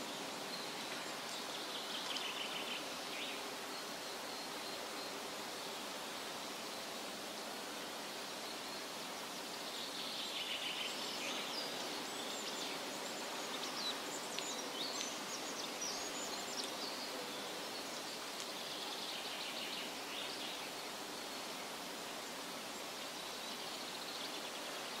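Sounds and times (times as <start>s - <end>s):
wind through trees: 0.0s - 25.0s.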